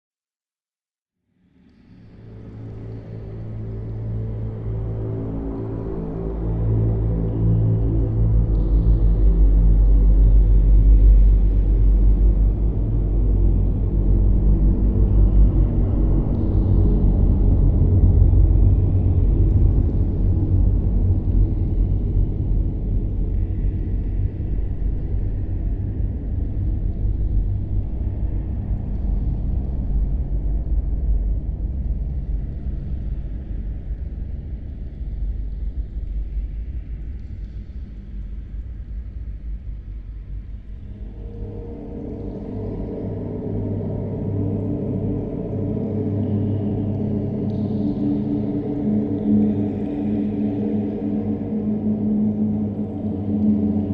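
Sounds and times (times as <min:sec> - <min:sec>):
deep rumbling drone: 0:01.8 - 0:53.9.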